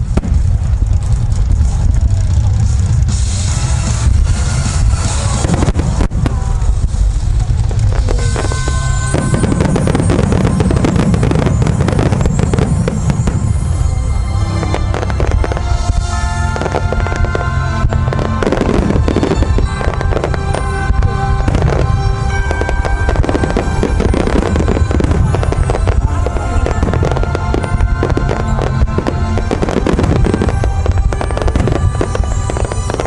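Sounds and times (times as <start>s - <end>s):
fireworks bursting and crackling: 0.0s - 33.0s
music playing: 0.0s - 33.0s.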